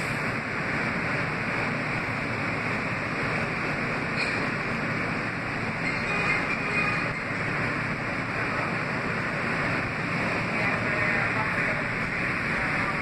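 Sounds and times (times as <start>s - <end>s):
subway car wheels rumbling on track: 0.0s - 13.0s.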